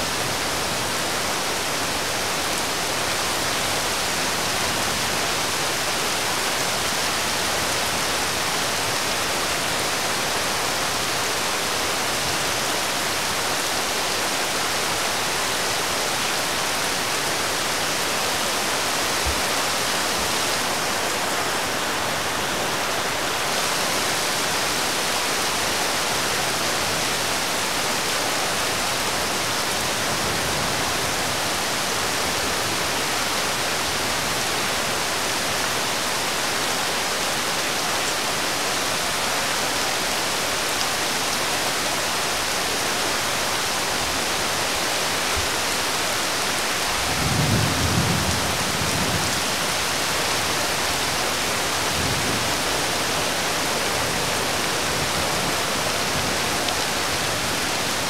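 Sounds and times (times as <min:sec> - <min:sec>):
rain falling on road and roofs: 0:00.0 - 0:58.0.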